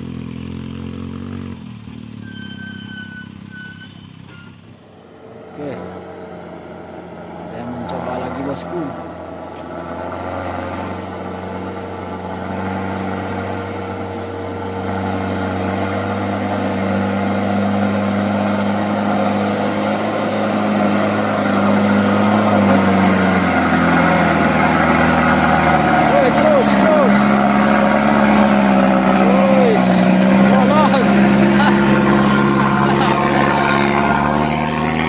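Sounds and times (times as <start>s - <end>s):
truck diesel engine under load: 0.0s - 35.0s.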